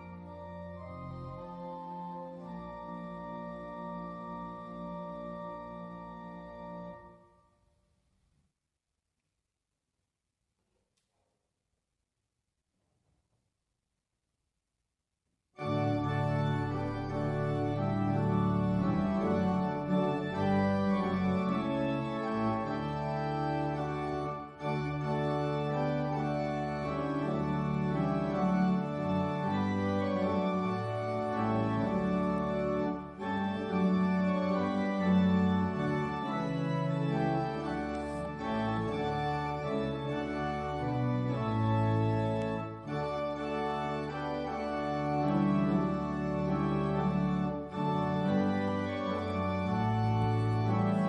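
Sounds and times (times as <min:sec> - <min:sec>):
organ playing sustained chords: 0:00.0 - 0:07.5, 0:15.6 - 0:51.0.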